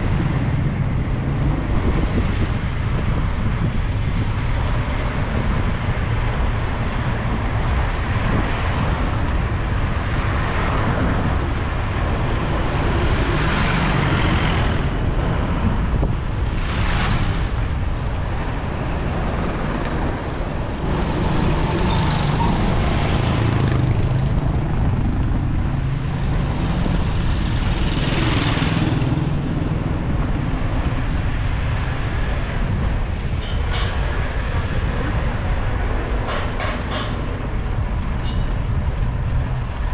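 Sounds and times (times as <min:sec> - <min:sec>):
vehicles passing: 0:00.0 - 0:39.9
wind rumble on microphone: 0:00.0 - 0:39.9.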